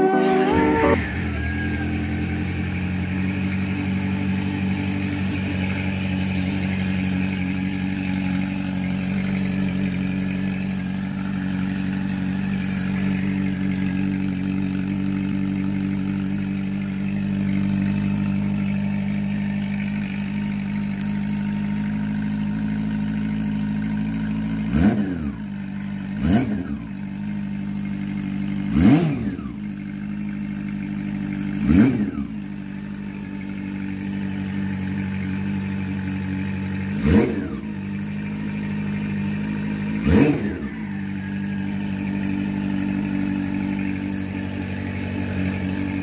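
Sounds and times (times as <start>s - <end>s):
motorcycle engine idling and revving: 0.0s - 46.0s.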